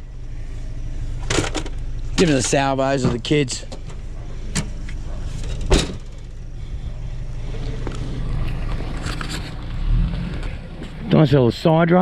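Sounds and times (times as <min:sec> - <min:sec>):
car cabin rumble: 0:00.0 - 0:11.6.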